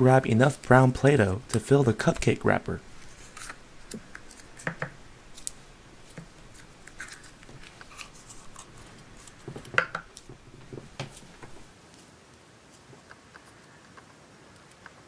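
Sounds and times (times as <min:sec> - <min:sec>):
modelling dough clicks and rustles: 0:00.0 - 0:15.0.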